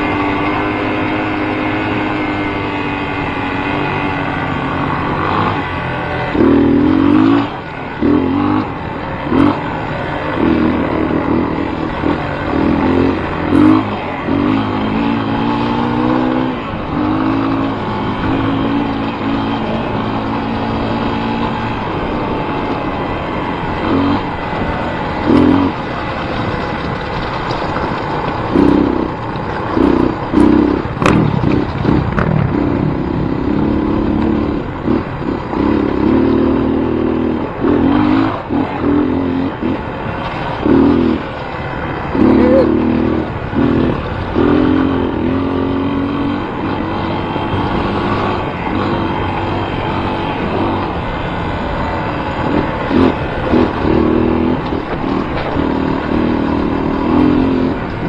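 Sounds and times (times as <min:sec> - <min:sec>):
vehicle engine revving: 0:00.0 - 0:58.0.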